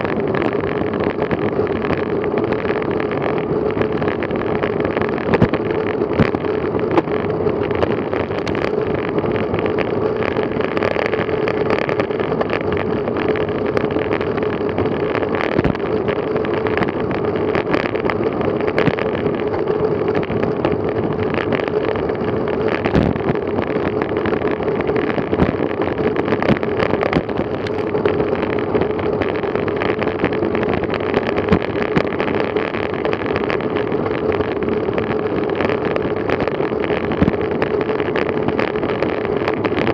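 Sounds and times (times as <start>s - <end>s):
wind and tyre noise: 0.0s - 39.9s
camera rattling on bumps: 0.2s - 39.9s.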